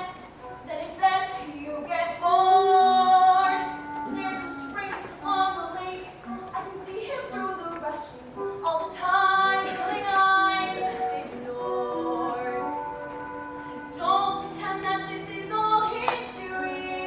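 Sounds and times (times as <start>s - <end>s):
woman singing: 0.0s - 17.0s
instrumental accompaniment: 0.1s - 17.0s.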